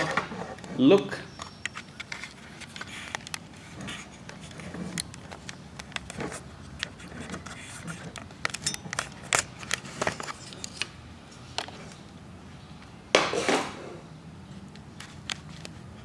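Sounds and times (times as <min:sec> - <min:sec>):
rustling scrape: 0:00.0 - 0:12.1, 0:13.3 - 0:14.1.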